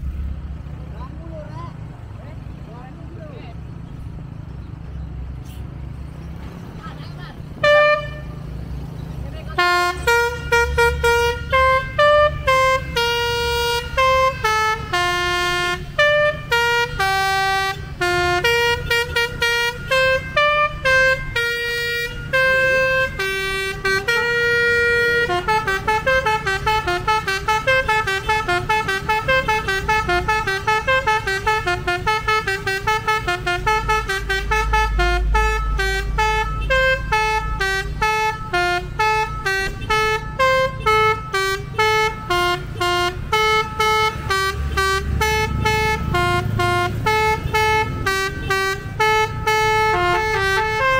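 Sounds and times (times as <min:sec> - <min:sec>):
bus engine rumbling: 0:00.0 - 0:50.9
musical air horn playing a tune: 0:07.6 - 0:08.4, 0:09.5 - 0:50.9.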